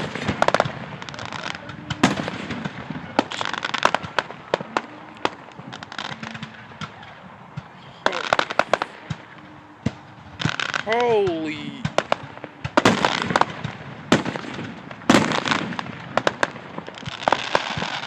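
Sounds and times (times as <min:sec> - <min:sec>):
fireworks popping and crackling: 0:00.0 - 0:18.0
single firework bangs: 0:00.0 - 0:18.0.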